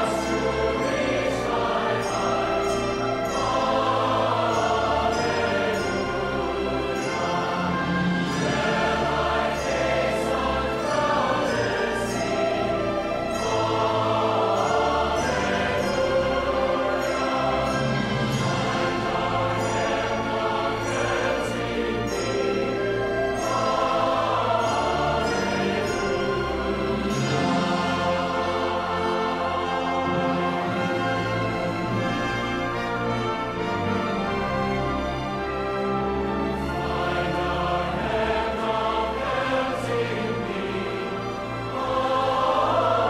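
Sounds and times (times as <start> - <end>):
choir singing a hymn: 0.0 - 43.0
instrumental accompaniment: 0.0 - 43.0.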